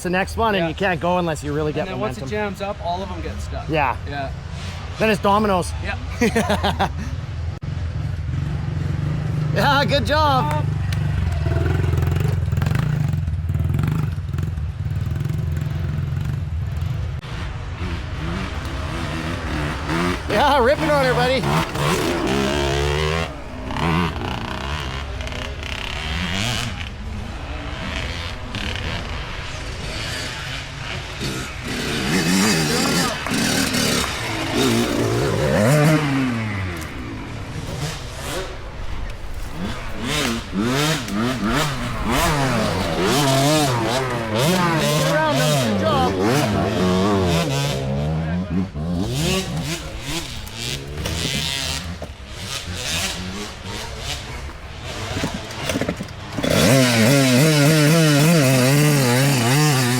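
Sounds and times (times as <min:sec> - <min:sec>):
dirt bike engine running: 0:07.6 - 0:59.9.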